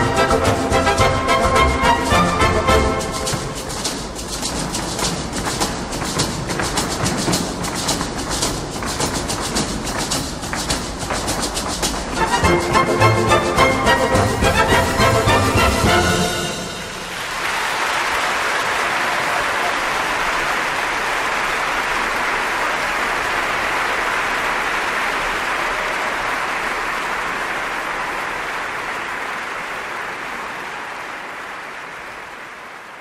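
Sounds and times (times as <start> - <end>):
audience applauding: 0.0 - 33.0.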